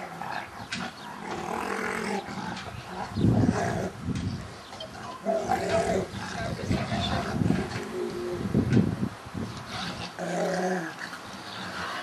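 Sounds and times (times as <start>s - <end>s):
dogs growling: 0.0s - 4.0s, 4.8s - 8.4s, 9.7s - 12.0s.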